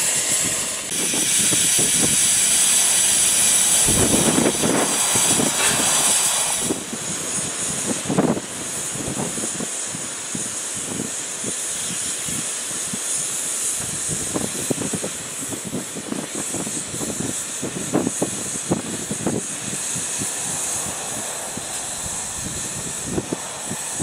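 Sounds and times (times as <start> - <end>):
steam hissing: 0.0 - 24.0.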